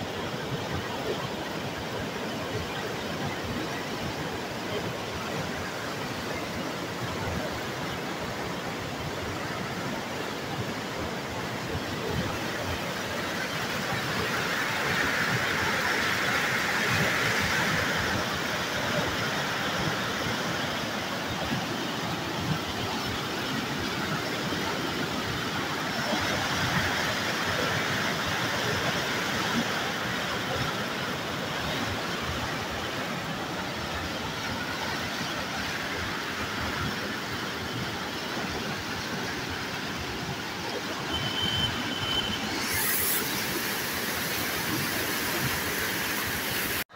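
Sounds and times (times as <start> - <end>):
water gushing through sluice gates: 0.0 - 46.9.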